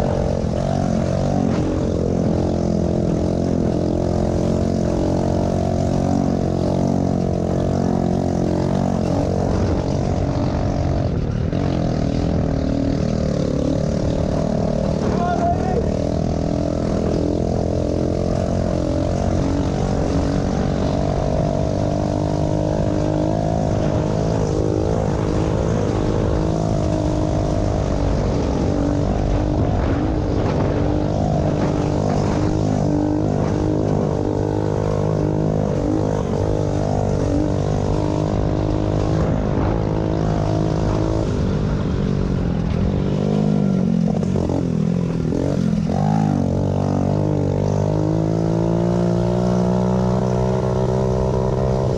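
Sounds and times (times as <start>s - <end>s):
pit bike engines revving: 0.0s - 51.9s.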